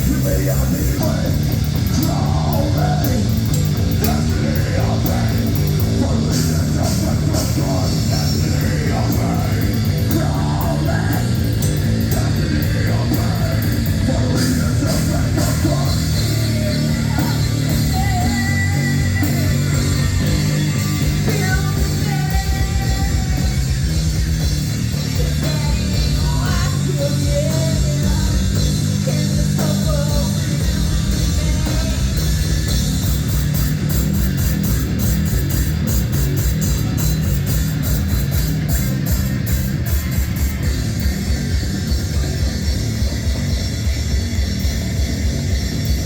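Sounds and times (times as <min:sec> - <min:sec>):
loud rock music: 0:00.0 - 0:46.0.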